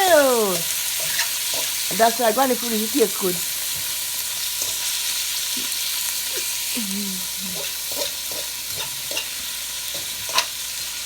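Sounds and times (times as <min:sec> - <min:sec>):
fat sizzling in a pot: 0:00.0 - 0:11.0.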